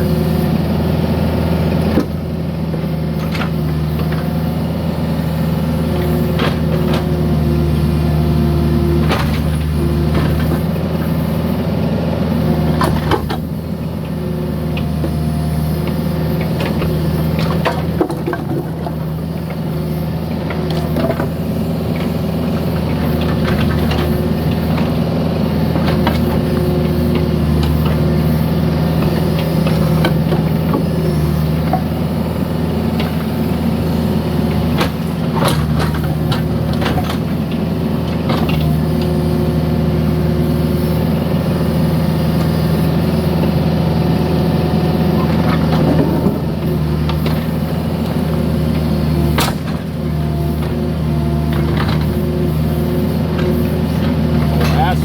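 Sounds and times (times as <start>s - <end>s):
engine whine: 0.0s - 55.0s
excavator diesel engine running: 0.0s - 55.0s.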